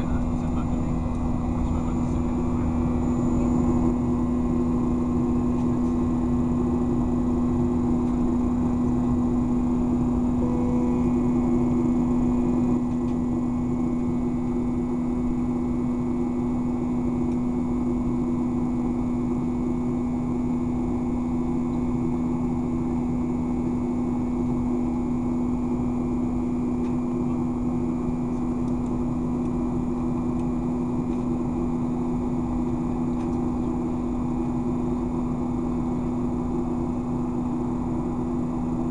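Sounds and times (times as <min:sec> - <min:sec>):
buzzsaw tones of engine fan: 0:00.0 - 0:38.9
jet engine drone in cabin: 0:00.0 - 0:38.9.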